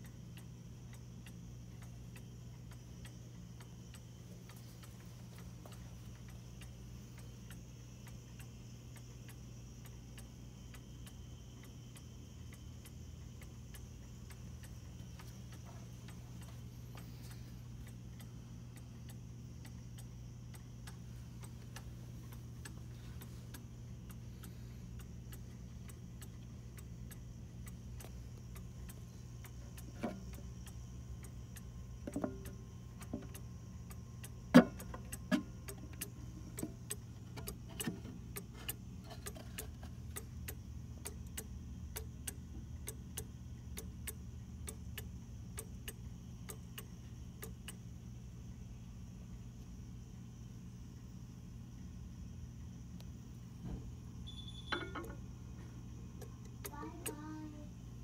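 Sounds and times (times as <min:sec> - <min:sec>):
clock ticking: 0:00.0 - 0:47.8, 0:54.3 - 0:55.2, 0:56.2 - 0:57.7.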